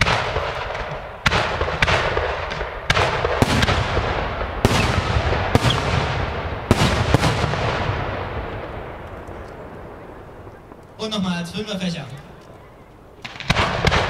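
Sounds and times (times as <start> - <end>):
firework shells bursting with rumble: 0.0 - 11.0, 13.2 - 14.0.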